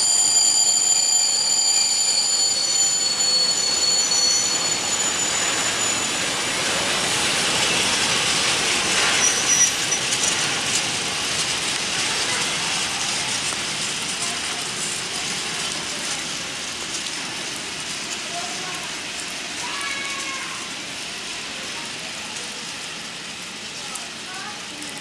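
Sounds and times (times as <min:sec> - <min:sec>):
train wagon clanks: 0:00.0 - 0:20.7
freight train wheels rattling: 0:00.0 - 0:25.0.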